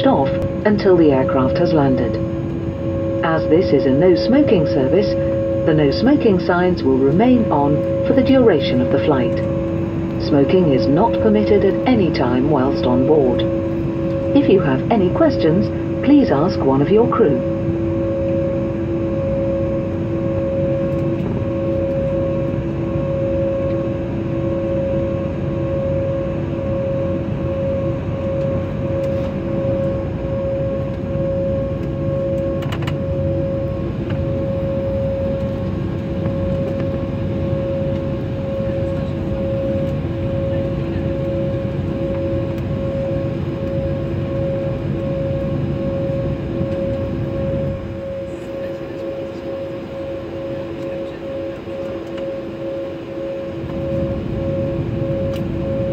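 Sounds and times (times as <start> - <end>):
airliner cabin rumble: 0.0 - 55.9
steady whining tones: 0.0 - 55.9.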